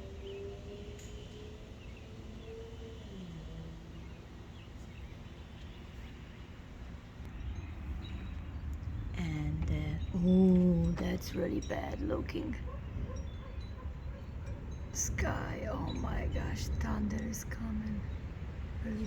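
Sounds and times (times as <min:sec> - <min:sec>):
distant engine hum: 0:00.0 - 0:19.0
wind rumble on microphone: 0:00.0 - 0:19.0.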